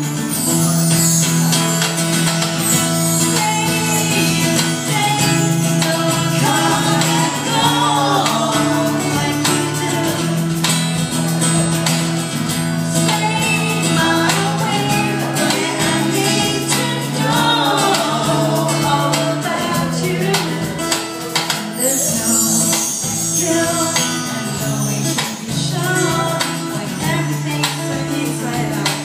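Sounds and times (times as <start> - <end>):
strummed acoustic guitar: 0.0 - 29.0
woman singing into microphone: 2.8 - 10.8, 12.8 - 29.0.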